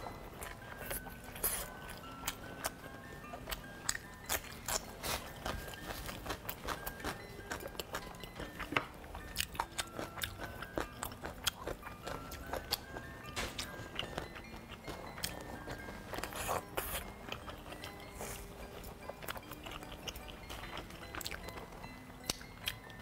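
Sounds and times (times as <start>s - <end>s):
biting and chewing food: 0.0s - 23.0s
light background music: 0.0s - 23.0s.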